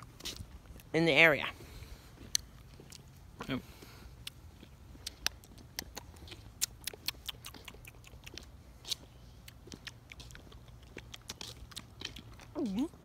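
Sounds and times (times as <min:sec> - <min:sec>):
person chewing grapes: 0:00.0 - 0:13.0.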